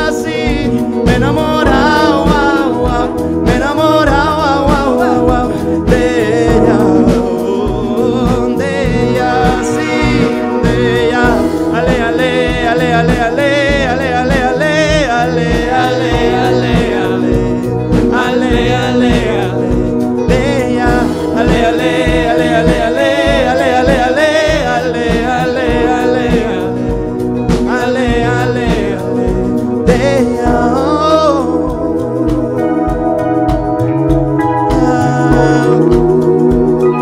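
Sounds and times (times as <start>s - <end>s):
drum beat: 0.0s - 37.0s
live band playing pop song: 0.0s - 37.0s
man singing: 0.0s - 37.0s.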